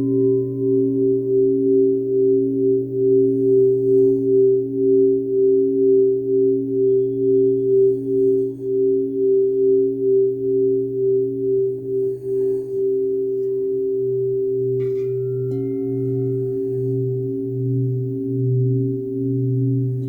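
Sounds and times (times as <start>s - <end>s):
crystal singing bowls: 0.0s - 20.0s
faint high ringing tone: 0.0s - 20.0s.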